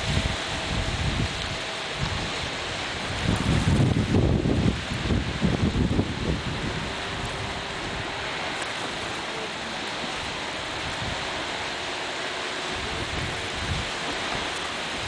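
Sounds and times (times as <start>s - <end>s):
distant watercraft engines: 0.0s - 15.0s
small waves washing on shore: 0.0s - 15.0s.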